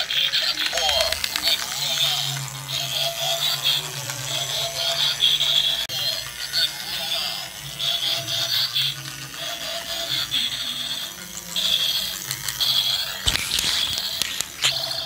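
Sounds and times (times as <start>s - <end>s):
tinny electronic toy music: 0.0s - 15.0s
toy motor and gears whirring: 0.0s - 15.0s
toy beeping sound effects: 0.6s - 15.0s.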